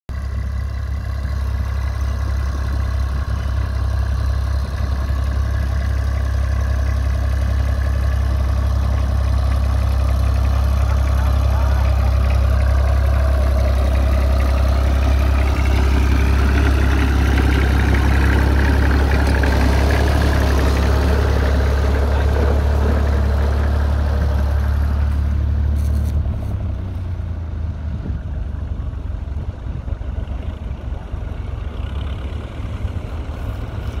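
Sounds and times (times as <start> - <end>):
tractor diesel engine: 0.1 - 34.0.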